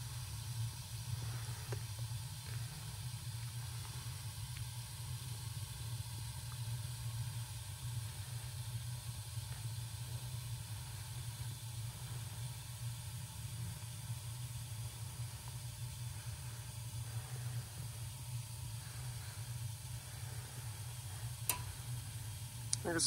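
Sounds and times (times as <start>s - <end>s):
furnace burners rumbling: 0.0s - 23.0s
soft hiss of flames: 0.0s - 23.0s.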